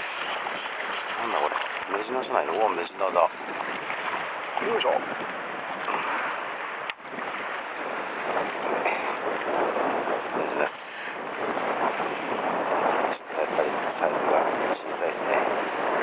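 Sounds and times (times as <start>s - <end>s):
waves washing against rocks: 0.0s - 16.0s
wind on the microphone: 0.0s - 16.0s.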